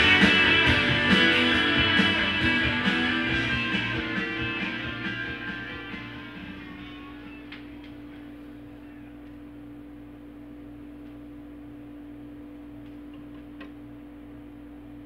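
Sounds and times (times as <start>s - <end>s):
turntable hum: 0.0s - 15.0s.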